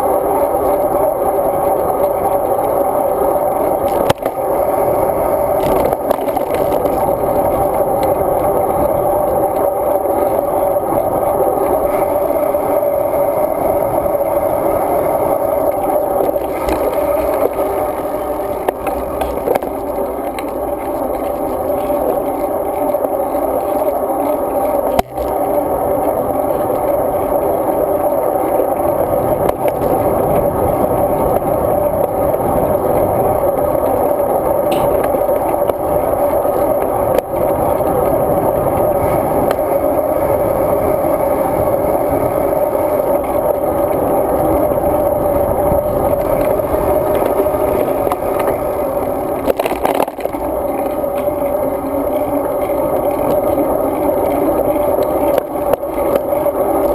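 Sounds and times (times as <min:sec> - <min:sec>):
bike rolling and rattling: 0:00.0 - 0:56.9.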